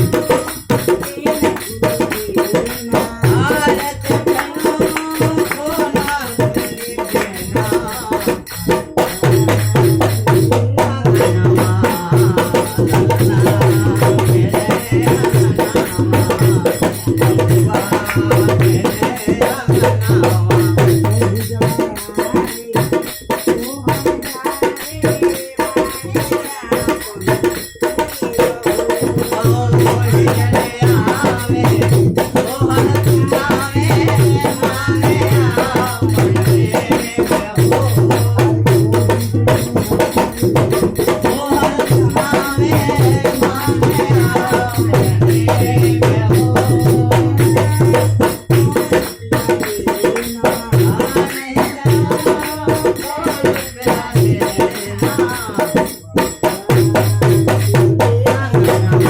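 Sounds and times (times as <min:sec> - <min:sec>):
person singing folk song: 0:00.0 - 0:09.8, 0:10.4 - 0:59.0
hand drum beat: 0:00.0 - 0:59.0
jingling percussion: 0:00.0 - 0:59.0.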